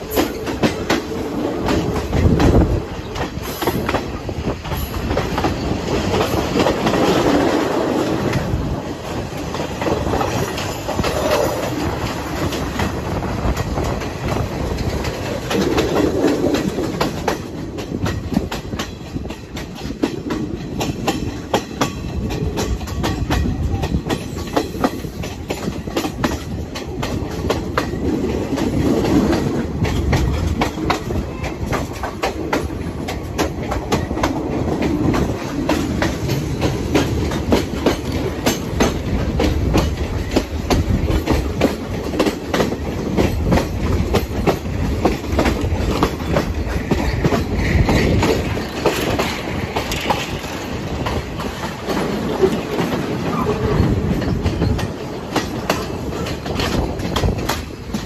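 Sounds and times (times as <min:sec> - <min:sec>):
train carriage low rumble: 0:00.0 - 0:58.0
wheels clattering over rail joints: 0:00.0 - 0:58.0.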